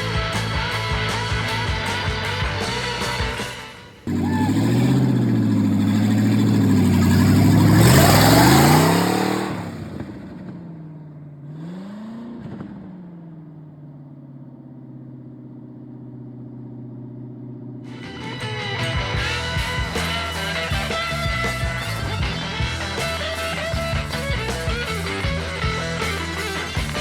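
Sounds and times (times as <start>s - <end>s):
engine revving and idling: 4.1s - 27.0s.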